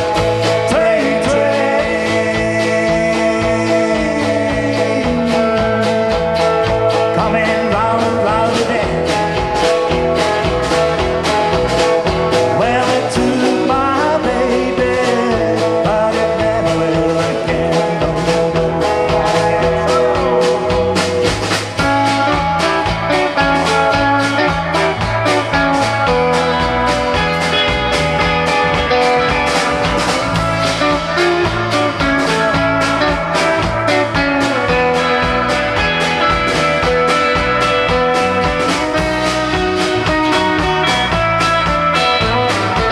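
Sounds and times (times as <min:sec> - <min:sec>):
guitars: 0:00.0 - 0:42.9
rock band playing: 0:00.0 - 0:42.9
steady drum beat: 0:00.0 - 0:42.9.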